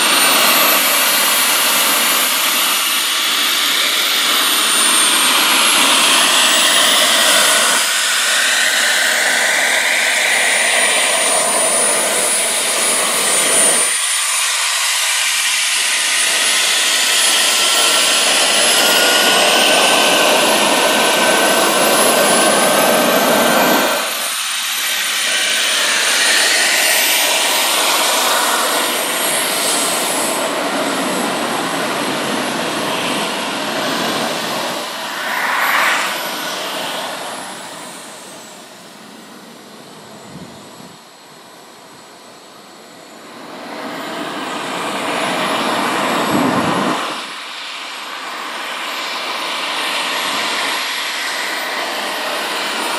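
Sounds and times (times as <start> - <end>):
model jet turbine whine: 0.0 - 52.9.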